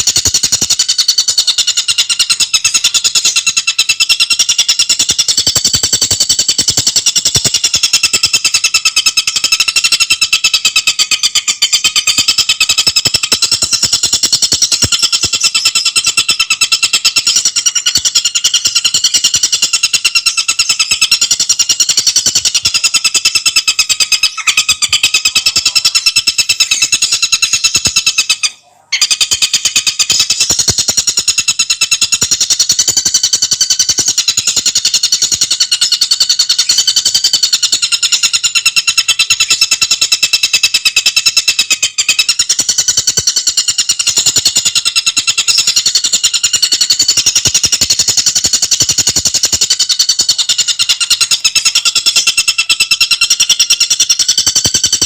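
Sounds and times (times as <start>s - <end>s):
bird rattling trill: 0.0s - 55.0s.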